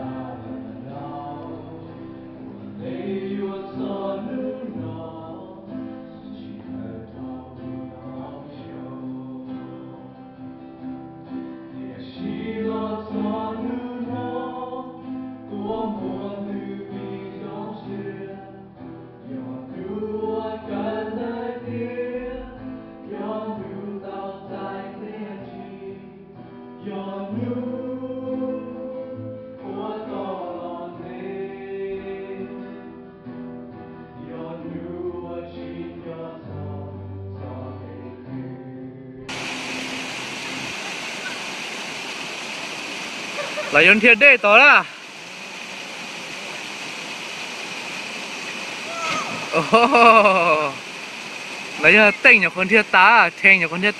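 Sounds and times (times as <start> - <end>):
voices singing together: 0.0 - 10.2, 11.7 - 32.9, 34.1 - 41.4, 48.4 - 53.9
guitar accompaniment: 0.0 - 41.4, 48.9 - 50.9.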